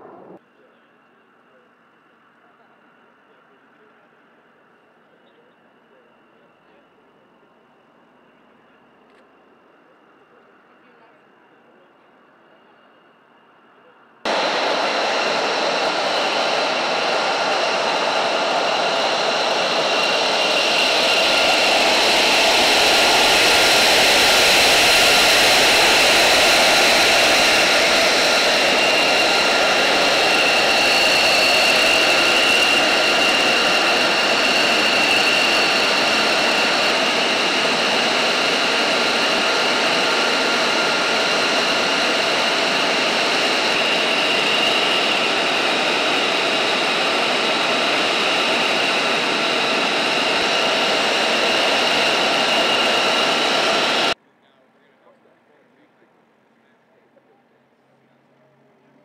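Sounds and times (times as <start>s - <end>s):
jet engine idling whine: 0.0s - 54.2s.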